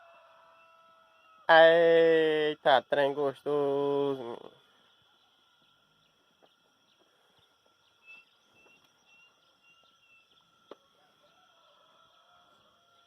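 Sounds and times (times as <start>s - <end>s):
steady high hum: 1.7s - 13.0s.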